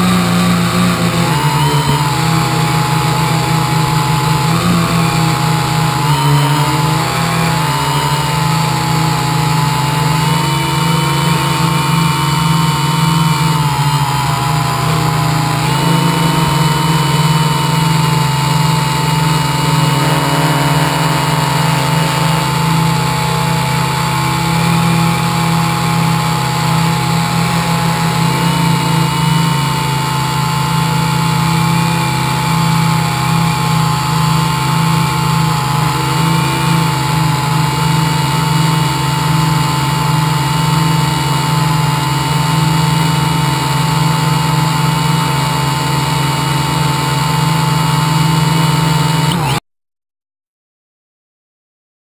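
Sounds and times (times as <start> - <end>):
drone motors buzzing and whining: 0.0 - 49.6.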